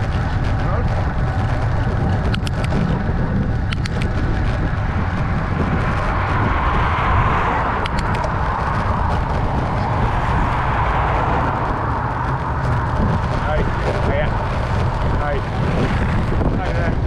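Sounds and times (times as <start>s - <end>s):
passing traffic: 0.0s - 17.0s
wind rushing over microphone: 0.0s - 17.0s.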